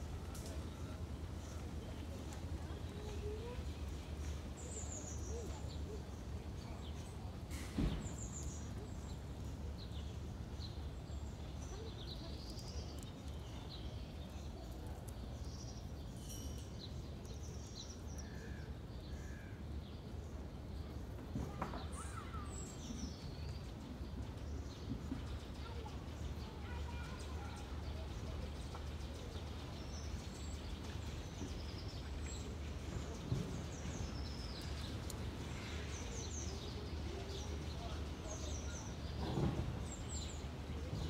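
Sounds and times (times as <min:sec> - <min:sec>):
small birds chirping: 0:00.2 - 0:41.0.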